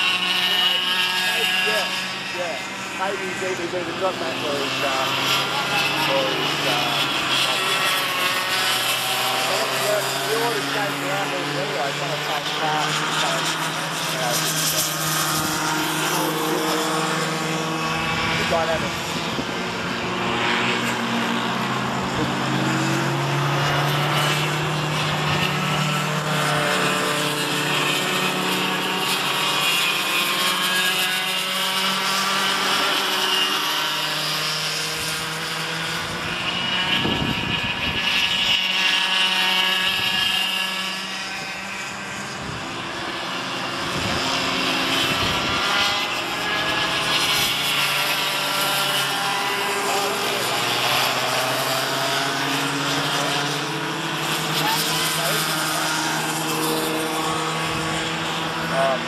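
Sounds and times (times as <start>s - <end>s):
go-kart engines buzzing: 0.0s - 59.0s.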